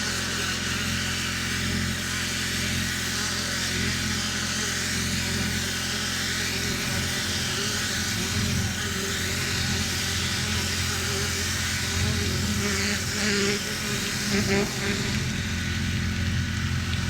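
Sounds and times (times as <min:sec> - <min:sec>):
pressure washer humming: 0:00.0 - 0:17.0
water jet hissing on tiles: 0:00.0 - 0:17.0.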